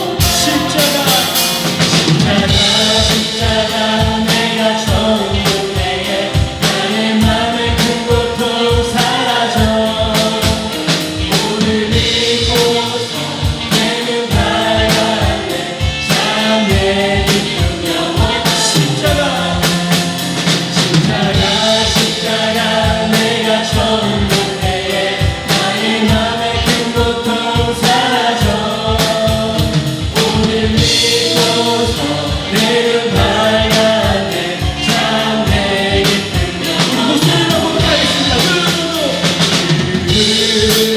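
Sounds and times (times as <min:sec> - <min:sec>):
many voices singing together: 0:00.0 - 0:40.9
praise band playing: 0:00.0 - 0:40.9.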